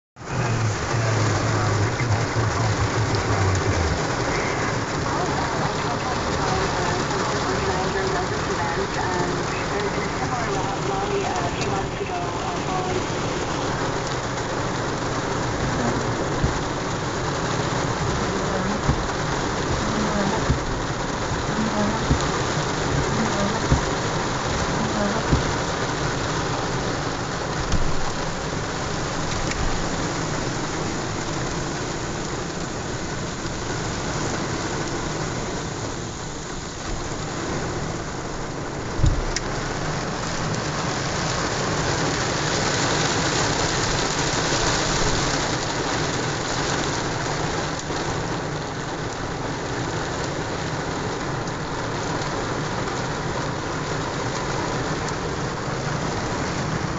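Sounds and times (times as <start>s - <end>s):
heavy rain on a vehicle roof: 0.0s - 56.9s.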